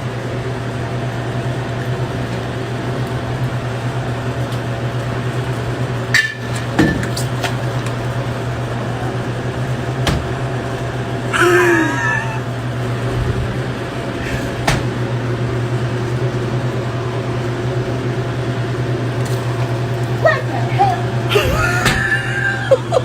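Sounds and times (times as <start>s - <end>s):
steady low hum: 2.7s - 23.0s.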